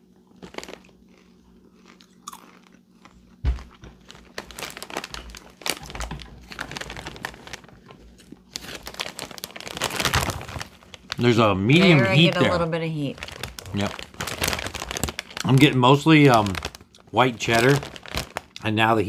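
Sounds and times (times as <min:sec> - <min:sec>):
popcorn crunching: 0:00.0 - 0:19.0.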